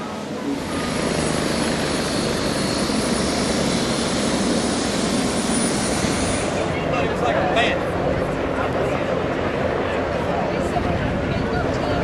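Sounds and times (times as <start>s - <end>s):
loud steady engine noise: 0.0s - 12.0s.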